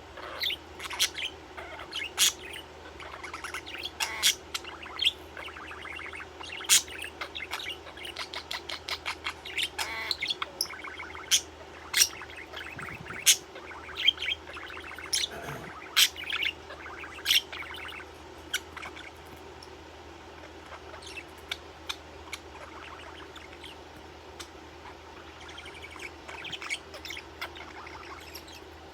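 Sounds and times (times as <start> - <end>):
budgerigar chirping and chattering: 0.2 - 19.2, 20.4 - 28.8.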